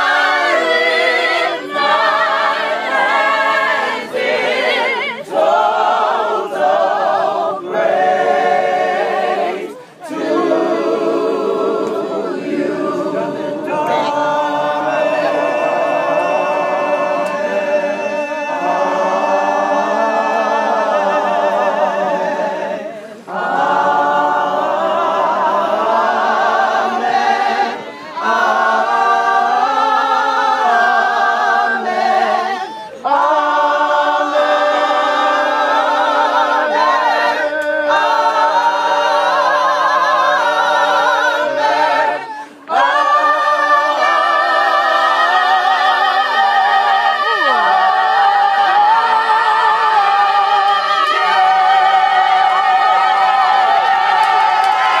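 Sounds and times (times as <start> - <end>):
group singing a cappella: 0.0 - 55.0.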